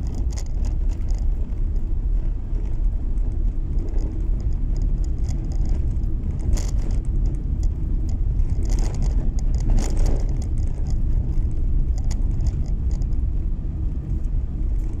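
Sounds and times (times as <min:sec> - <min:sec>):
tyres rumbling on snow: 0:00.0 - 0:15.0.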